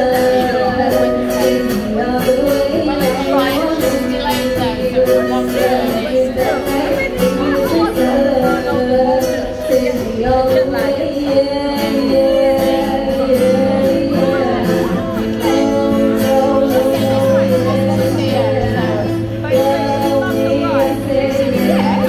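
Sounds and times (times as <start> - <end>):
girl singing into microphone: 0.0 - 22.0
strummed acoustic guitar: 0.0 - 22.0.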